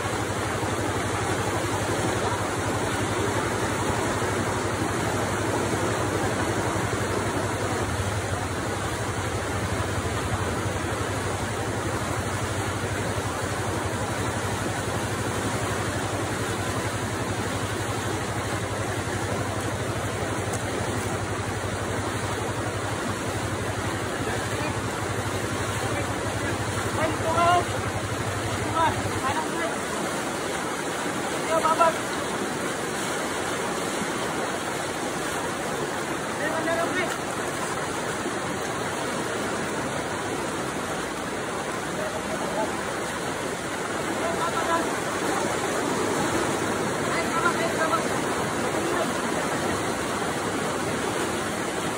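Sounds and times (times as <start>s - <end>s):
floodwater rushing: 0.0s - 51.9s.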